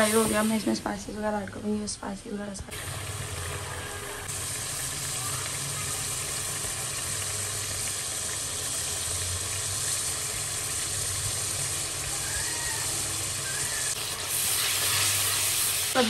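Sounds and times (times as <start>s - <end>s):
paste sizzling in oil: 0.0s - 0.8s, 2.7s - 16.0s.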